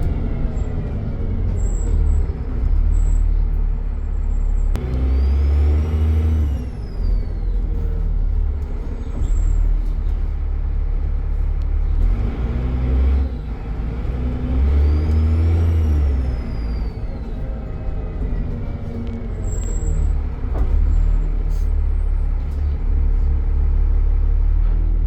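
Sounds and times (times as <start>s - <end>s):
diesel bus engine droning: 0.0s - 25.0s.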